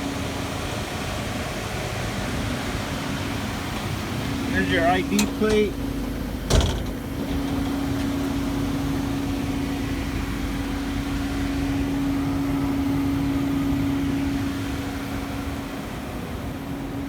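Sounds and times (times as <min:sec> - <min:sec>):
machine electrical hum: 0:00.0 - 0:17.0.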